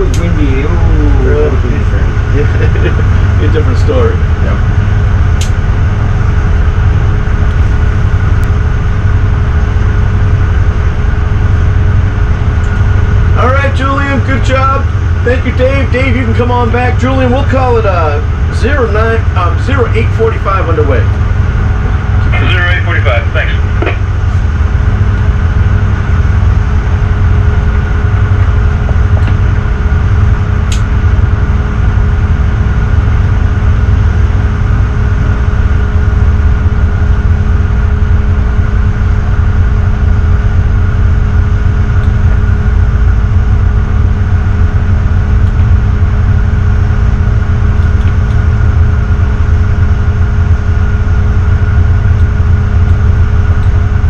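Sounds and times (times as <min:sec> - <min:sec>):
boat diesel engines rumbling: 0:00.0 - 0:54.0.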